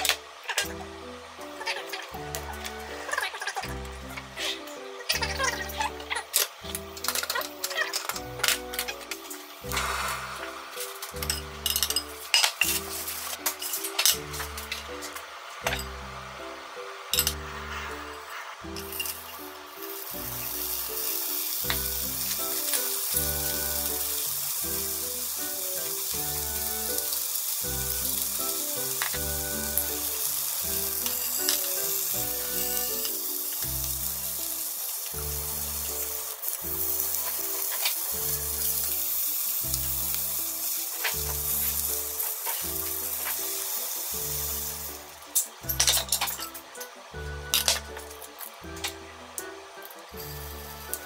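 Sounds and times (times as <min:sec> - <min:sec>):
background music with steady beat: 0:00.0 - 0:51.0
food sizzling in a frying pan: 0:00.0 - 0:51.0.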